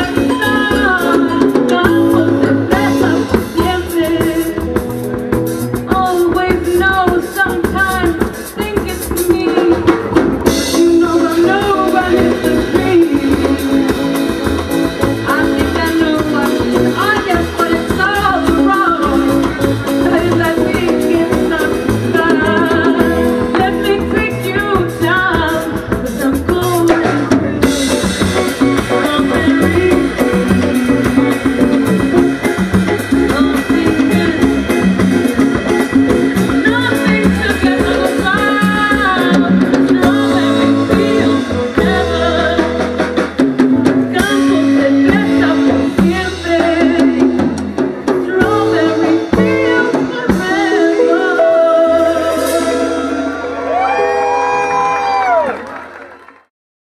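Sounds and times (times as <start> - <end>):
woman singing lead vocal: 0.0 - 5.0, 5.7 - 43.3, 44.0 - 54.4
live band playing latin rock: 0.0 - 56.2.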